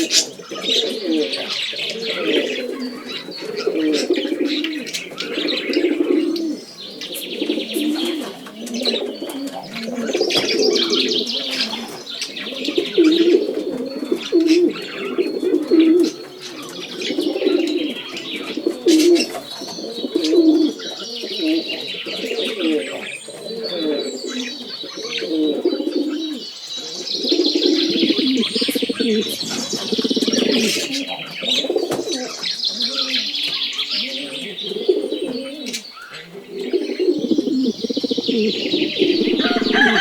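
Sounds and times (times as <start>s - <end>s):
pigeons cooing: 0.0s - 40.0s
small birds chirping and trilling: 0.0s - 40.0s.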